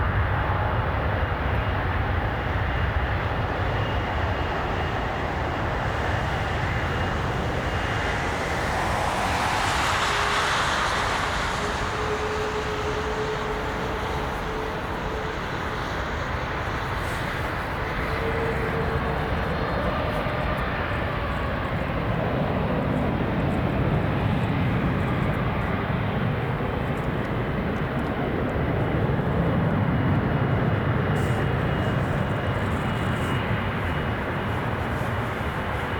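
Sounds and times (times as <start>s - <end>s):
faint engine whine: 0.0s - 35.9s
jet engines roaring: 0.1s - 35.9s.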